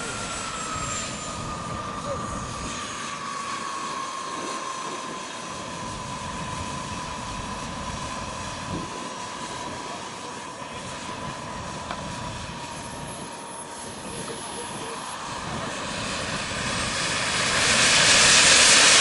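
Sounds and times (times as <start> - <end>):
model jet turbine whine: 0.0 - 19.0.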